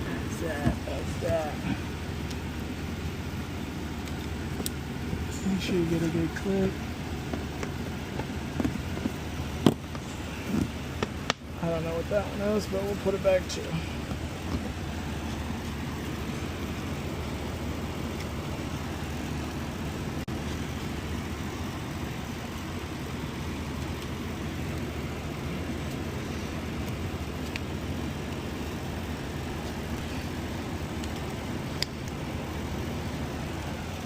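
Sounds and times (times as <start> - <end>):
low workshop rumble: 0.0 - 34.0.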